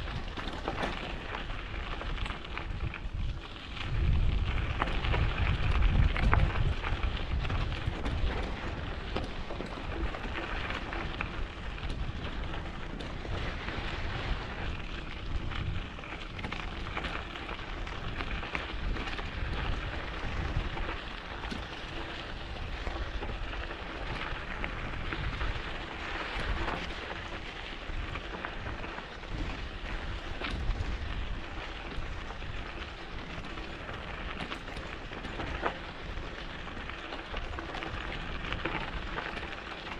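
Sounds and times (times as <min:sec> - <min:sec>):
bike tyres crackling on dirt: 0:00.0 - 0:39.9
wind rumbling on microphone: 0:00.0 - 0:39.9.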